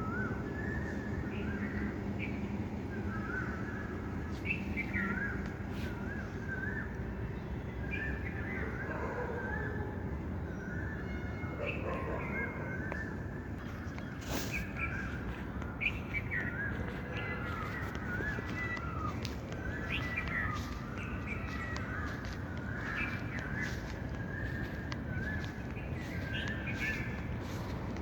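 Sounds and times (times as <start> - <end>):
birds chirping and calling: 0.0 - 10.0, 10.6 - 28.0.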